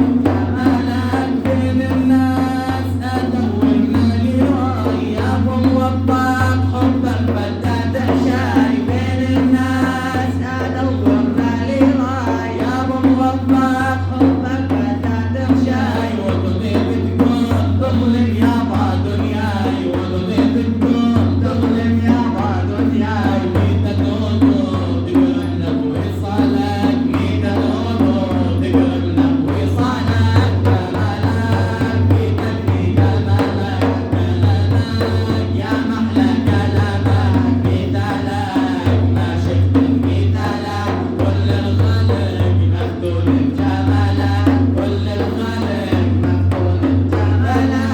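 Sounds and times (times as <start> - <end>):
drum accompaniment: 0.0 - 47.9.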